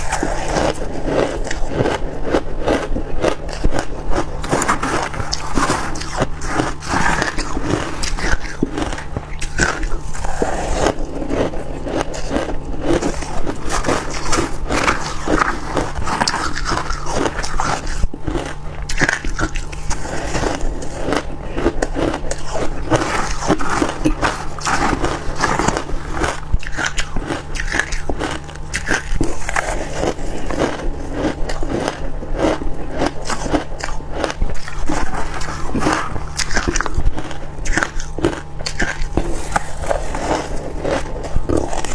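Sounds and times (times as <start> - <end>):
chewing crunchy ice: 0.0 - 41.9.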